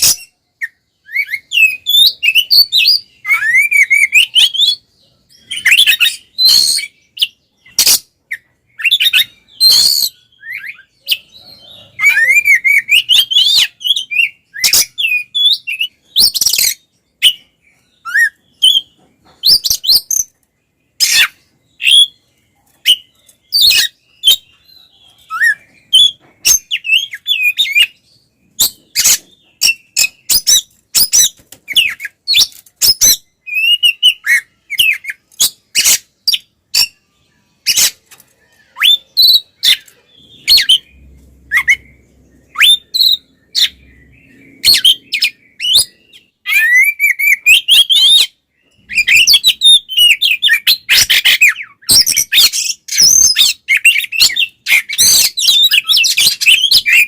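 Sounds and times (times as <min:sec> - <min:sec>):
bird singing harsh fast song: 0:00.0 - 0:57.0.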